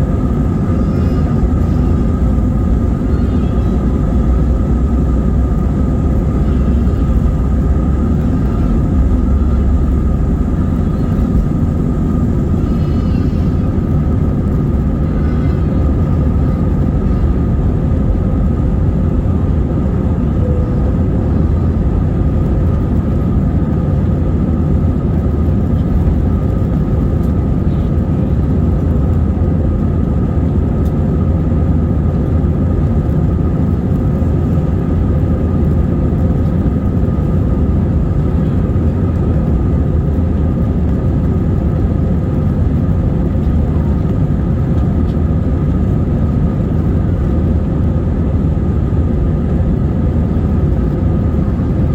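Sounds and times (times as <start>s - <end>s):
airliner engine rumble: 0.0s - 51.9s
faint steady whine: 0.0s - 51.9s.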